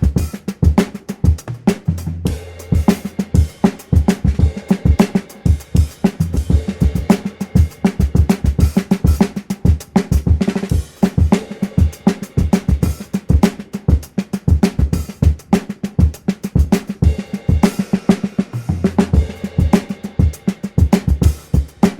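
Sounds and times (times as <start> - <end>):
drum rimshots: 0.0 - 21.9
snare drum: 0.0 - 21.9.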